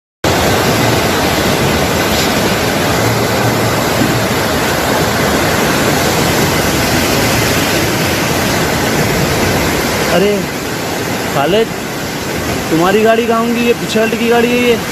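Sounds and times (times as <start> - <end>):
floodwater rushing: 0.2 - 14.9.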